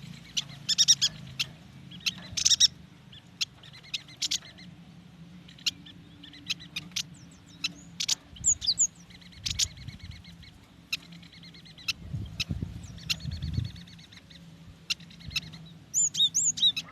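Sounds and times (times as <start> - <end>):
bird chip notes and buzzy trills: 0.0 - 16.9.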